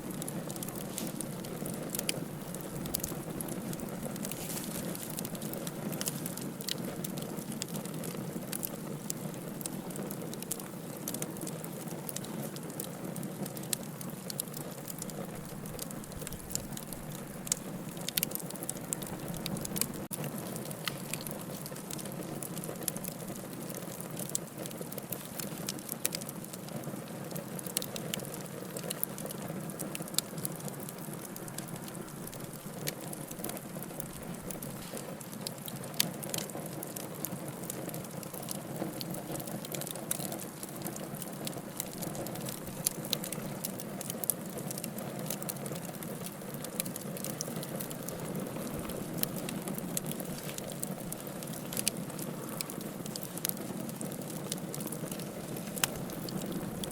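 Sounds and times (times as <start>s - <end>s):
logs popping and crackling: 0.0s - 56.9s
wood fire burning: 0.0s - 56.9s.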